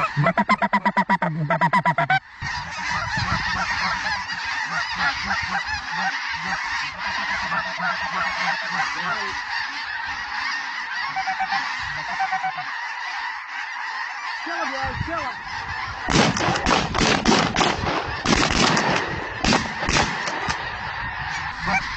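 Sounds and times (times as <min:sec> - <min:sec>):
flock of geese calling: 0:00.0 - 0:21.9
rapid goose honks: 0:00.0 - 0:21.9.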